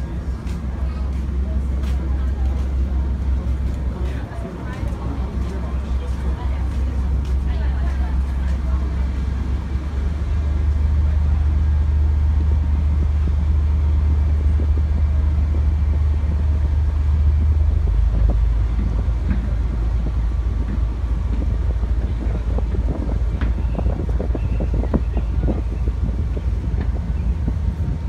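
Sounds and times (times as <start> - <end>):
ferry diesel engines humming: 0.0 - 28.0.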